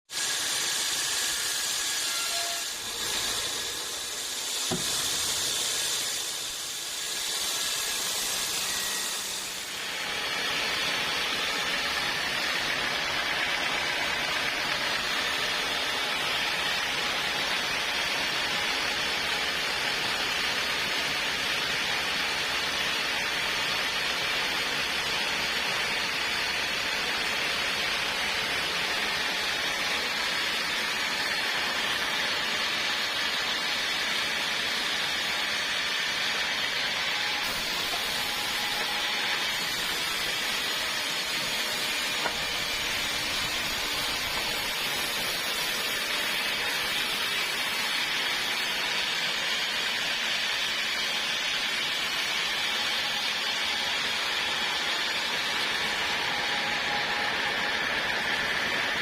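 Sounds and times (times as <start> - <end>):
saw cutting through log: 0.1 - 59.0.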